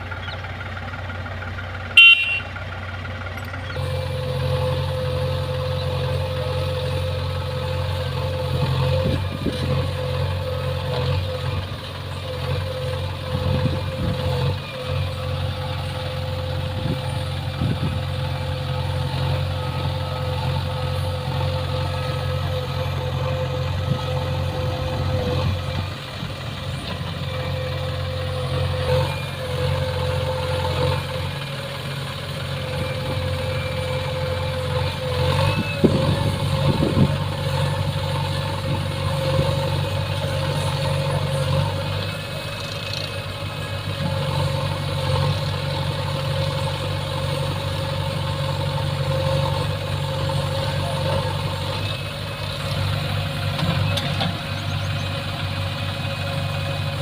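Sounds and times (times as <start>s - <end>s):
heavy machine engine idling: 0.0s - 57.0s.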